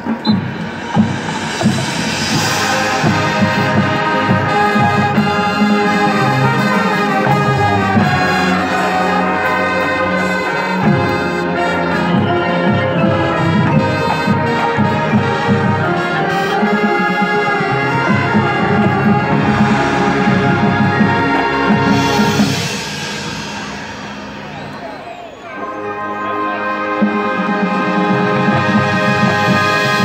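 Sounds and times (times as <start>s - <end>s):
brass chords: 0.0s - 30.0s
drums and percussion: 0.0s - 30.0s.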